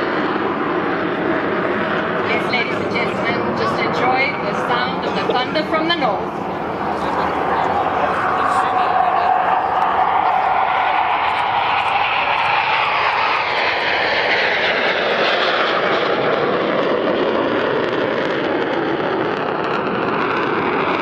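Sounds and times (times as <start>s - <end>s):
jet taking off: 0.0s - 21.0s.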